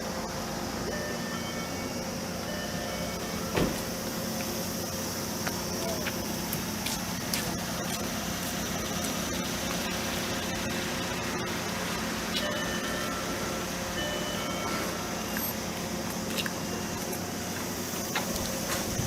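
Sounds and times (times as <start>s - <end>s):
passing traffic hum: 0.0s - 19.0s.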